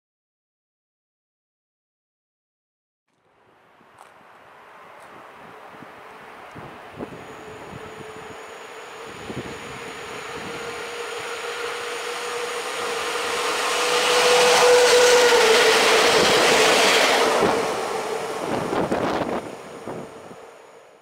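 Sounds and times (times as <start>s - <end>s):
locomotive hum: 3.3s - 21.0s
locomotives rumbling past: 3.6s - 21.0s.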